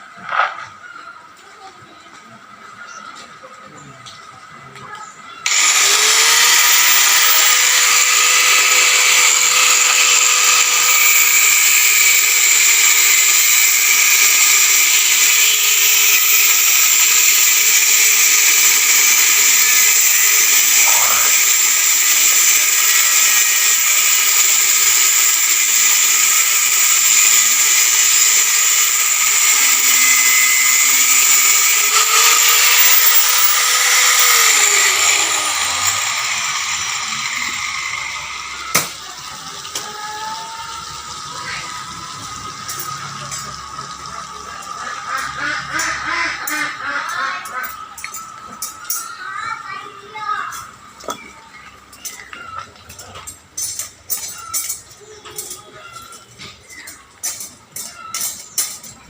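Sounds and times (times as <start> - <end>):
cutting wheel grinding steel: 5.4 - 59.0.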